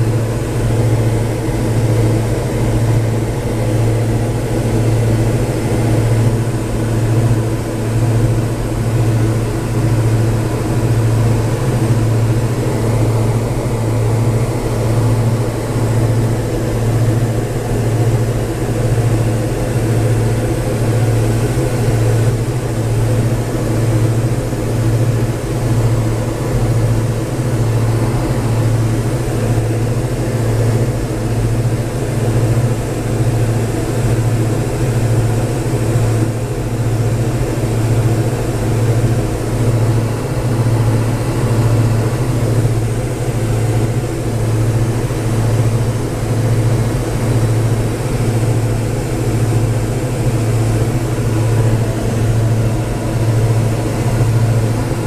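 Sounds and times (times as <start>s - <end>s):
aircraft engines droning: 0.0s - 55.0s.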